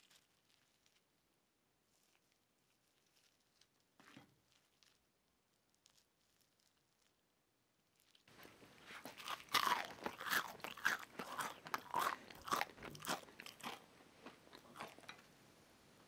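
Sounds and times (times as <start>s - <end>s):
crunchy food being chewed: 0.0s - 1.2s, 1.8s - 15.3s.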